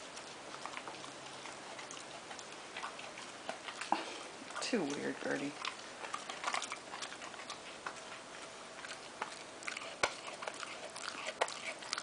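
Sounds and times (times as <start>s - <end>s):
pet chewing tissue: 0.0s - 12.0s.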